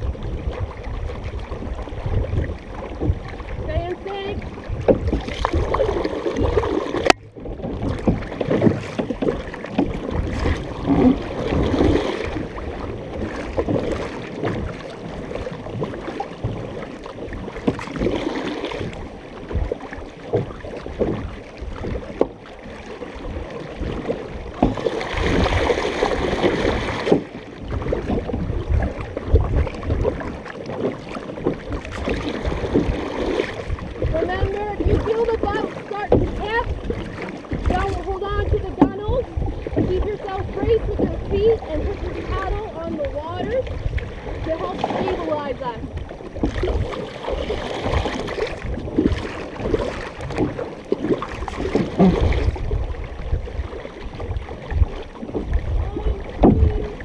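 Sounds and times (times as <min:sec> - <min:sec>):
wind on microphone: 0:00.0 - 0:22.2, 0:23.2 - 0:57.0
paddle strokes in water: 0:00.0 - 0:57.0
water rushing along hull: 0:00.0 - 0:57.0.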